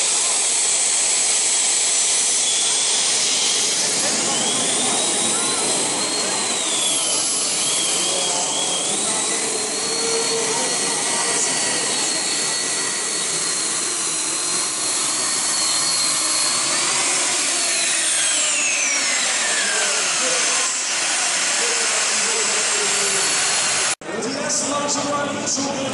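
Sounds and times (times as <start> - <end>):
exhaust rush: 0.0 - 24.0
gas turbine engines whining: 0.0 - 24.0.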